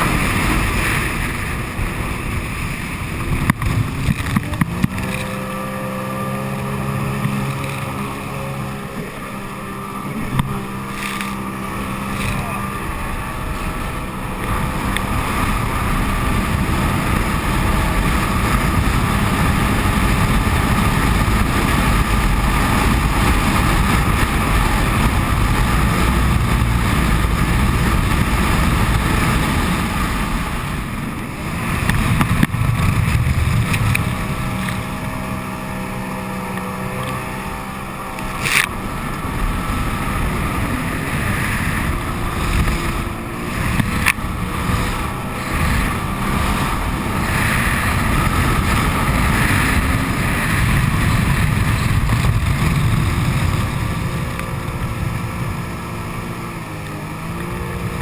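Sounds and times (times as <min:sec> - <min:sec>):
jet ski engine running: 0:00.0 - 0:58.0
water rushing: 0:00.0 - 0:58.0
wind buffeting microphone: 0:00.0 - 0:58.0.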